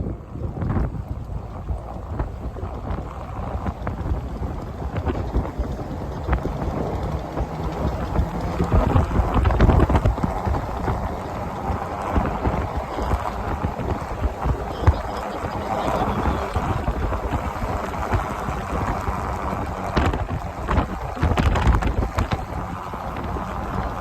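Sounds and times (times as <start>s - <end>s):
off-road vehicle rumble: 0.0s - 24.0s
wind buffeting microphone: 0.0s - 24.0s.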